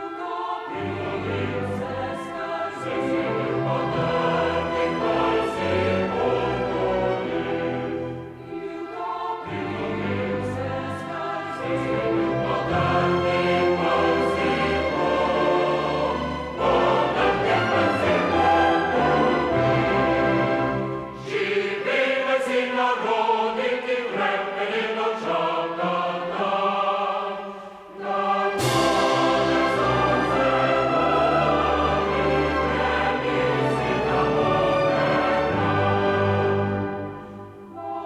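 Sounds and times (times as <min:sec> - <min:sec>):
choir singing: 0:00.0 - 0:38.0
orchestral accompaniment: 0:00.0 - 0:38.0.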